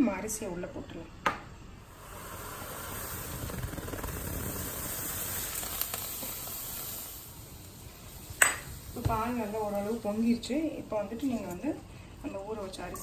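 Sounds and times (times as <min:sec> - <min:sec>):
milk hissing as it boils: 0:01.7 - 0:12.6.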